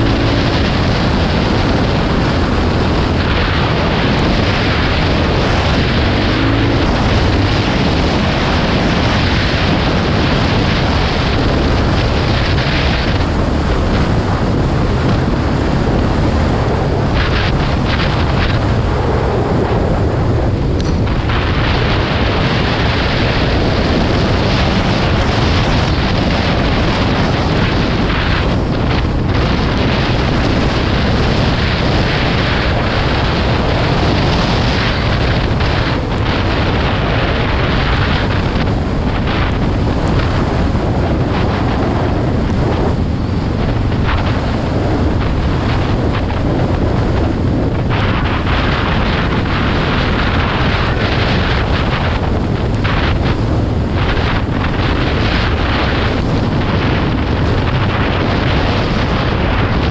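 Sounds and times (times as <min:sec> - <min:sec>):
quad bike engine running: 0:00.0 - 0:59.9
wind buffeting microphone: 0:00.0 - 0:59.9.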